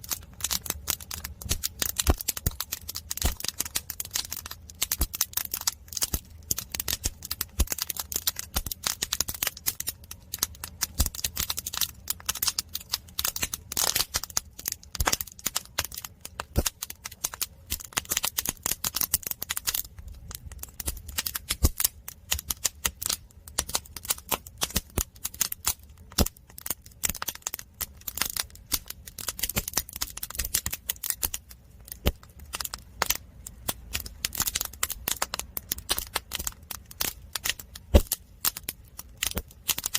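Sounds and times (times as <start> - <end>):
fire low rumble: 0.0 - 39.9
logs crackling and popping: 0.0 - 39.9.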